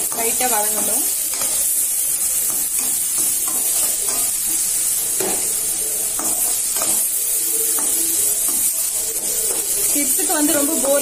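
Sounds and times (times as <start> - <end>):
onions sizzling in hot oil: 0.0 - 11.0
spatula scraping pan: 0.0 - 11.0.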